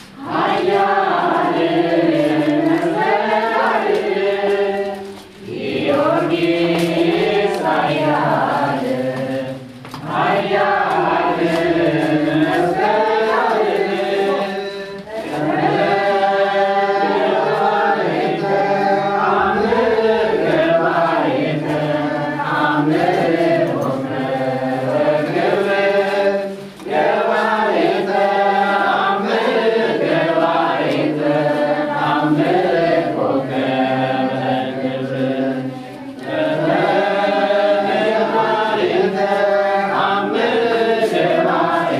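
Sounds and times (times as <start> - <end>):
group chanting a hymn: 0.0 - 41.9.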